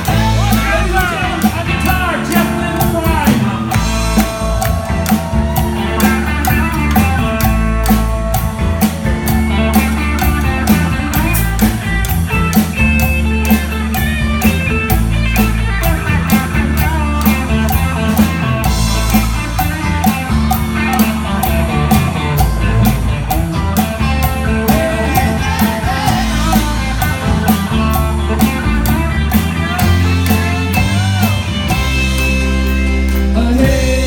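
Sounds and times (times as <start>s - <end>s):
sharp percussion hits: 0.0s - 32.5s
rock music with guitar: 0.0s - 34.0s
strong bass line: 0.0s - 34.0s.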